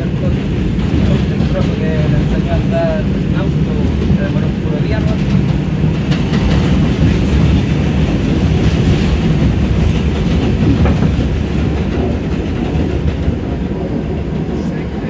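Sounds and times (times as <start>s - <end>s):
passing subway train: 0.0s - 15.0s
subway train rumble and wheel clatter: 0.0s - 15.0s.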